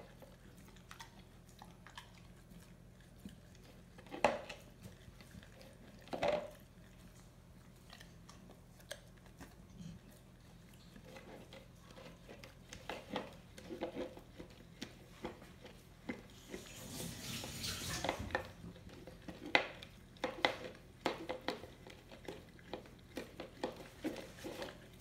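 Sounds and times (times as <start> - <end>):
dog licking: 0.0 - 25.0.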